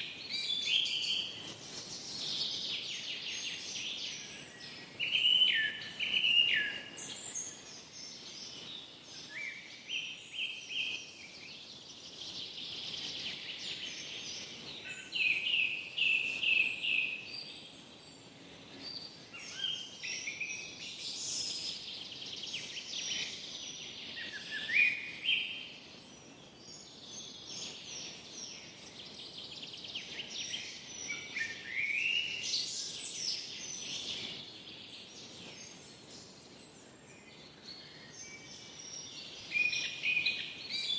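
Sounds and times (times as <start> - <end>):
faint background hiss: 0.0 - 40.9
songbirds singing trills and whistles: 0.0 - 40.9.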